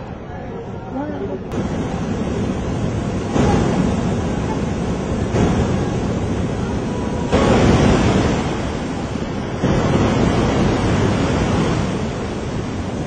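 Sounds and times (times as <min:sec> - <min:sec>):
floodwater rushing through street: 0:01.5 - 0:13.0.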